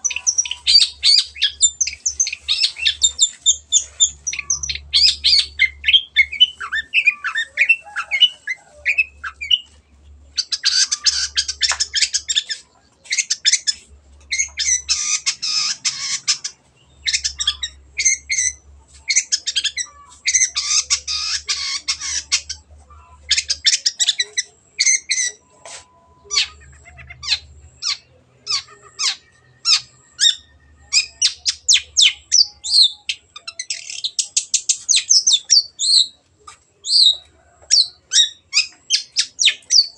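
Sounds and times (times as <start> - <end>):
bird singing harsh scratchy phrases: 0.0 - 39.9.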